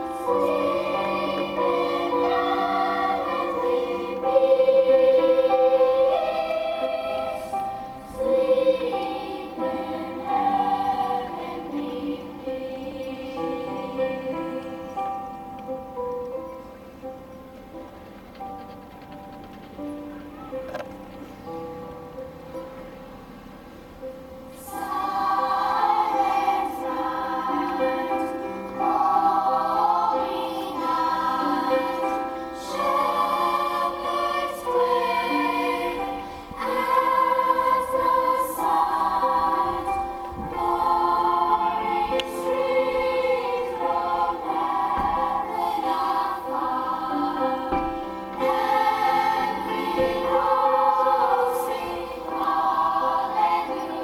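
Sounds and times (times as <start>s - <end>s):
choir singing a carol: 0.0s - 17.4s, 24.2s - 54.0s
quiet music: 0.0s - 54.0s.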